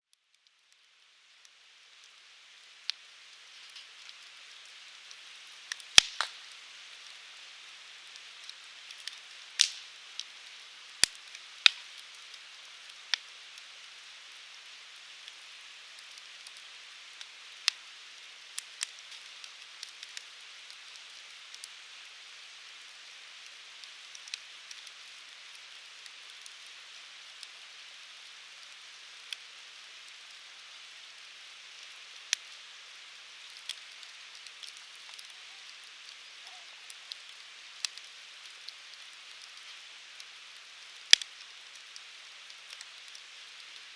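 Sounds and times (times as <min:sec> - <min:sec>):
soft hiss: 0:00.1 - 0:43.9
firewood crackling and popping: 0:00.4 - 0:43.9.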